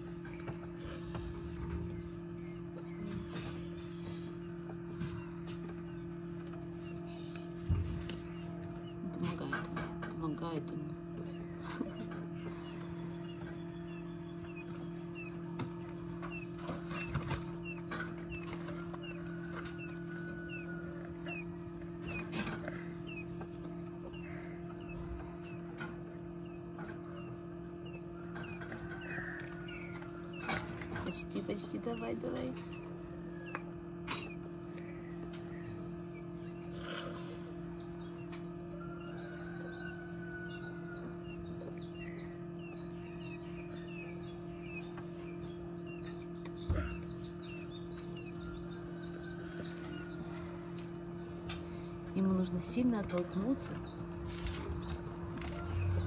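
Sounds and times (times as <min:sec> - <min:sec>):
low hum: 0:00.0 - 0:56.0
quail chicks peeping: 0:00.0 - 0:56.0.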